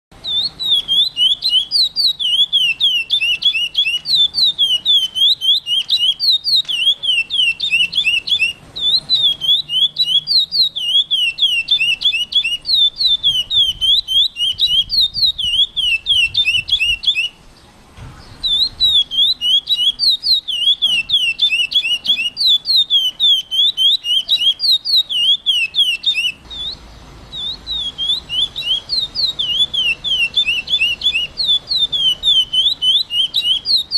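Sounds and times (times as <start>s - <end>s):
finch singing sweeping chirps: 0.2s - 33.9s.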